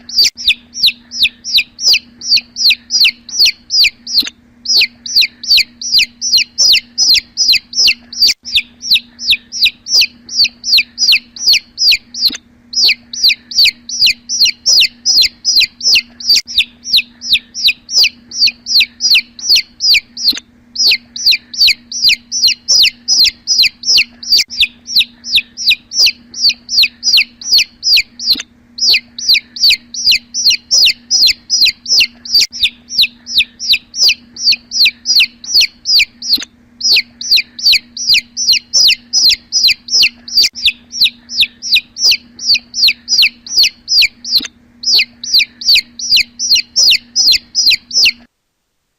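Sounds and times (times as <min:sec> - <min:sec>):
chick peeping loudly: 0:00.0 - 0:48.3
faint low hum: 0:00.0 - 0:48.9.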